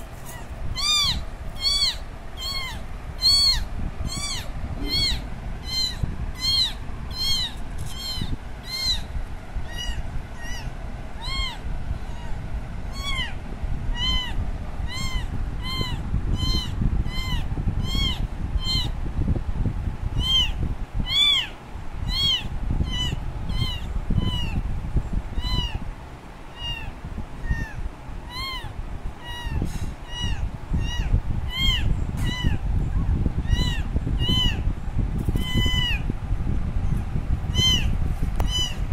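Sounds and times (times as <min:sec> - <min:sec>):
kitten meowing: 0:00.2 - 0:19.0, 0:20.2 - 0:24.6, 0:25.4 - 0:25.8, 0:26.5 - 0:34.7, 0:35.4 - 0:36.1, 0:37.5 - 0:38.8.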